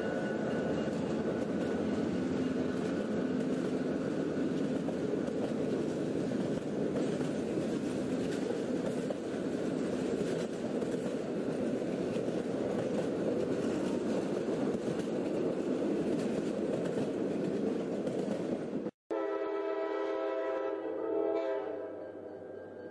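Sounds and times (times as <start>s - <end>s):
train rumbling: 0.0s - 22.9s.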